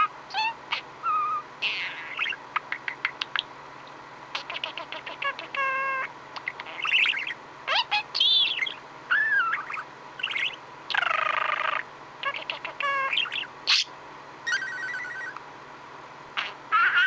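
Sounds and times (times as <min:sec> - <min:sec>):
budgerigar chattering: 0:00.0 - 0:03.5, 0:04.3 - 0:13.9, 0:16.4 - 0:17.0.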